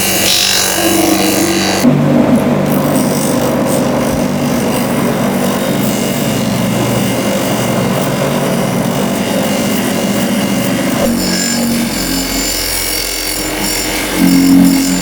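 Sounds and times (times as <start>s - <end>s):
electric power tool running: 0.0s - 15.0s.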